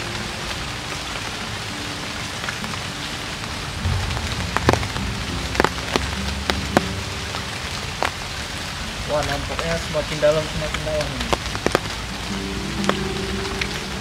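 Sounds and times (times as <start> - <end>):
rain on river surface: 0.0 - 14.0.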